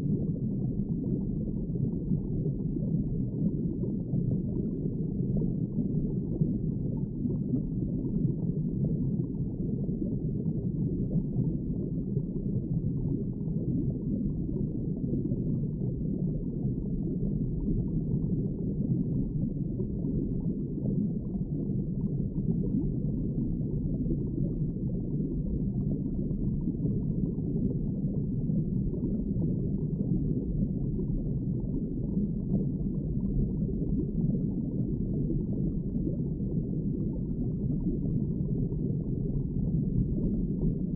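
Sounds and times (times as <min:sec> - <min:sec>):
underwater rumbling wash: 0:00.0 - 0:40.9.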